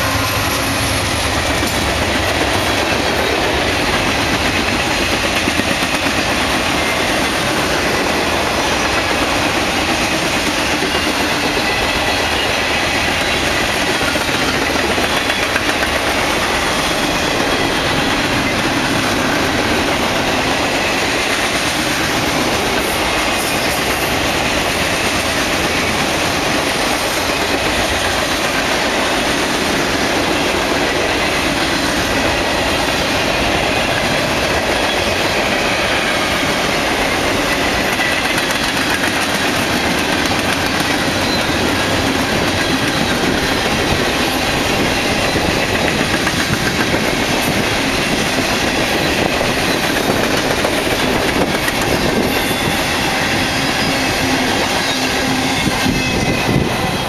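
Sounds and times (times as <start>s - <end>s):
freight train wheels on rail: 0.0s - 57.0s.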